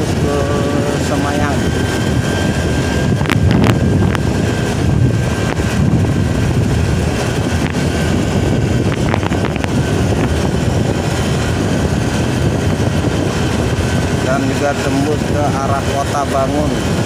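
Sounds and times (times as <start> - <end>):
vehicle road noise: 0.0 - 17.0
wind rumble on microphone: 0.0 - 17.0.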